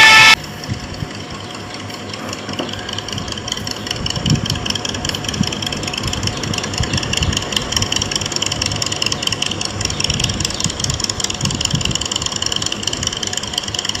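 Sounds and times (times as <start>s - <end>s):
motorcycle engine idling: 0.4s - 14.0s.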